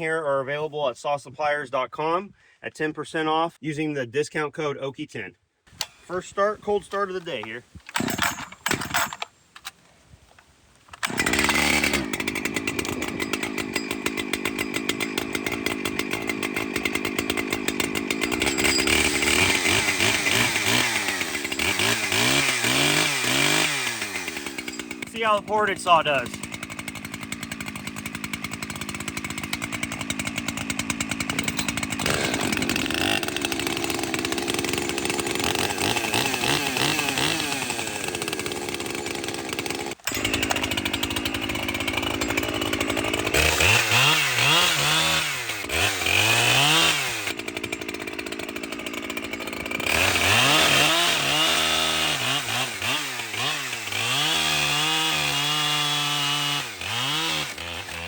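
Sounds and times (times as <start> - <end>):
chainsaw revving: 6.9 - 9.3, 11.0 - 58.0.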